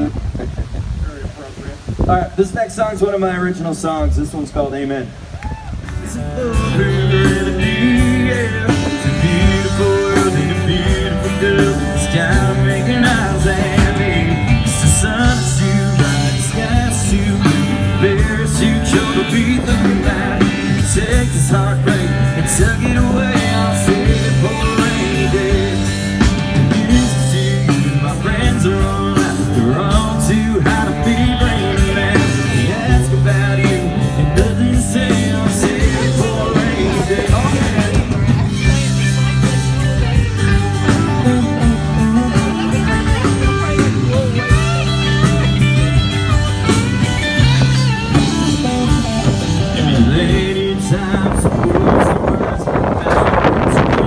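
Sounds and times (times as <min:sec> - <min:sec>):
guitar: 0:00.0 - 0:54.0
live rock band: 0:00.0 - 0:54.0
drum kit: 0:05.9 - 0:54.0
person singing: 0:06.0 - 0:54.0.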